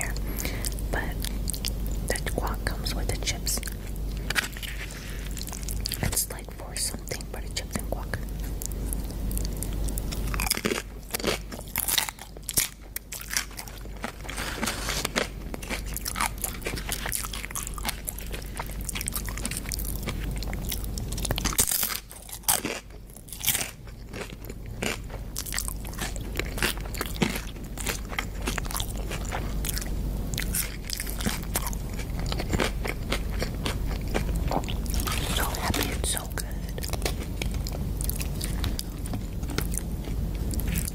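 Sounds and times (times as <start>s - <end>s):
crunching bites and chewing: 3.6s - 6.8s, 8.2s - 40.9s.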